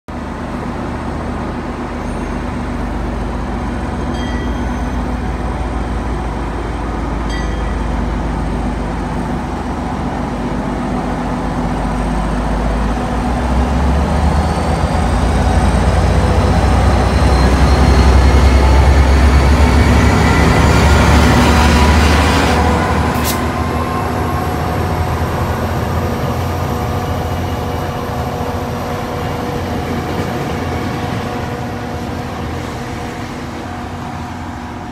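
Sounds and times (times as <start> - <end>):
diesel locomotive engine: 0.1 - 34.9.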